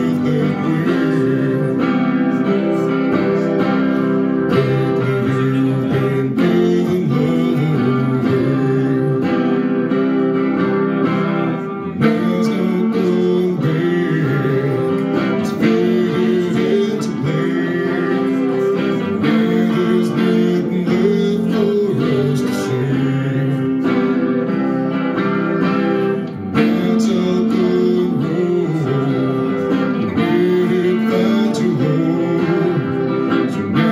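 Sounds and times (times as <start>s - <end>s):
electric guitar strumming: 0.0s - 33.9s
man singing: 0.0s - 33.9s.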